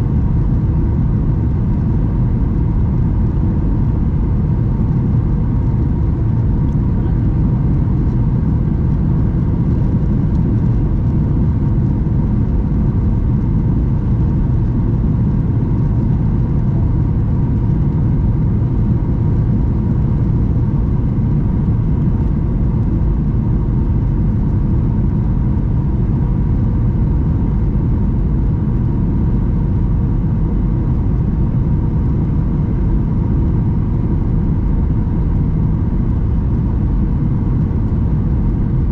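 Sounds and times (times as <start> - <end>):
airflow rushing in cabin: 0.0 - 38.9
faint steady whine: 0.0 - 38.9.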